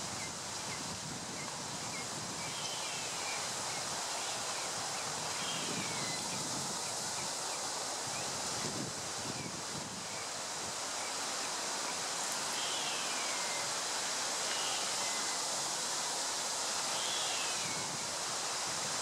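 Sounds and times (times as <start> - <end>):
wind in foliage: 0.0 - 19.0.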